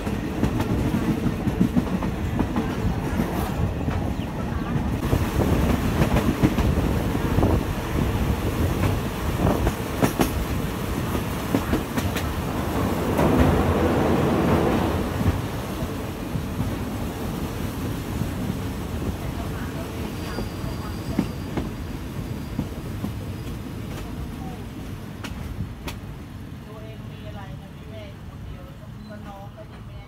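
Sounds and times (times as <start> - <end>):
train carriage rumble: 0.0 - 30.0.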